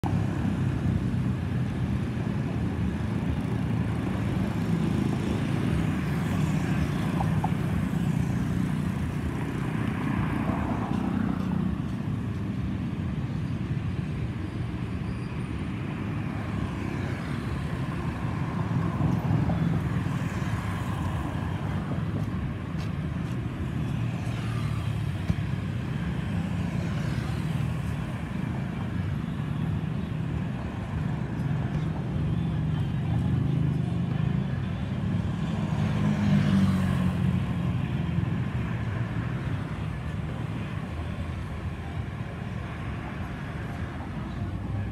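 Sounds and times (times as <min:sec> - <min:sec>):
jet engines passing overhead: 0:00.0 - 0:44.9.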